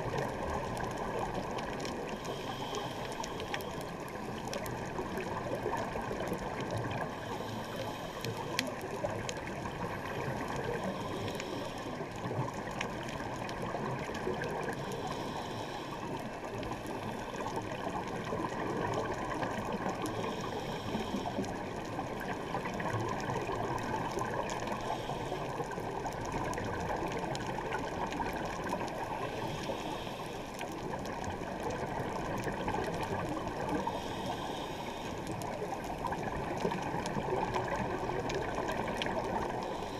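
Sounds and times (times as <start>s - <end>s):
regulator bubbles gurgling: 0.0s - 39.9s
underwater watery rush: 0.0s - 39.9s.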